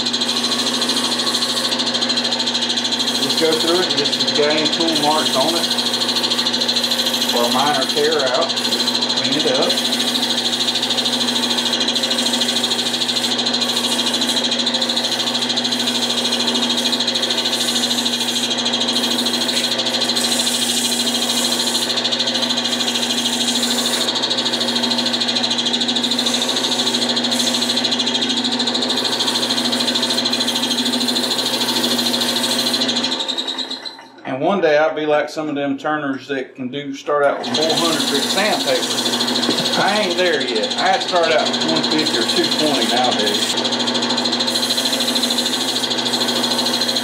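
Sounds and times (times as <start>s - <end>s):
sandpaper hissing on spinning wood: 0.0s - 33.0s, 37.5s - 47.0s
lathe motor hum: 0.0s - 34.1s, 37.4s - 47.0s.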